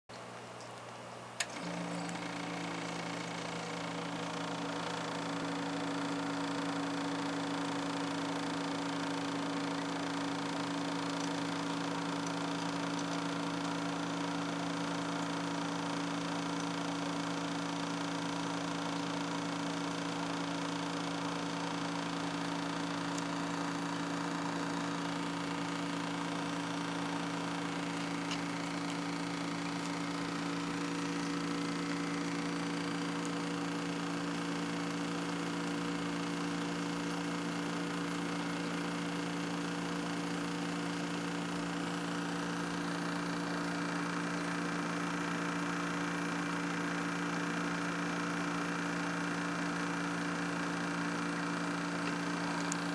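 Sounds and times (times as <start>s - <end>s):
aquarium pump humming: 0.1s - 52.9s.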